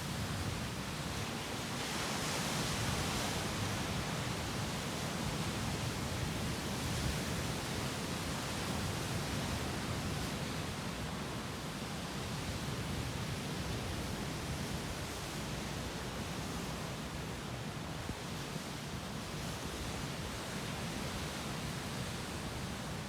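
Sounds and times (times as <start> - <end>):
waves washing ashore: 0.1 - 23.0.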